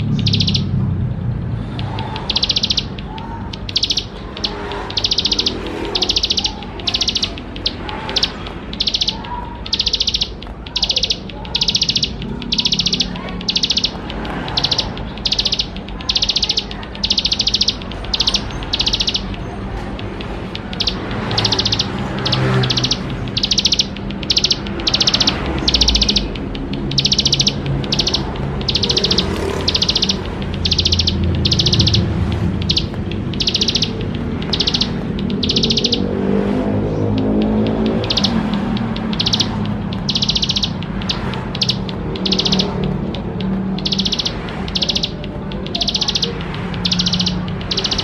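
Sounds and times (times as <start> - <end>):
bird singing buzzy trills: 0.0 - 48.0.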